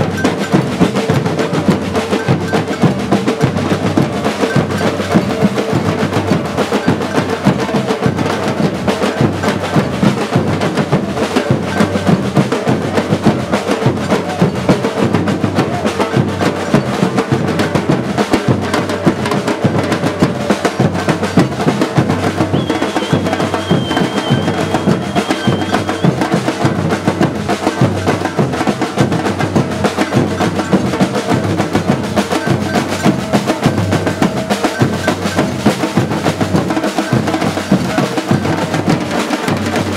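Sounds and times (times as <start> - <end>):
samba drum group playing: 0.0 - 39.9.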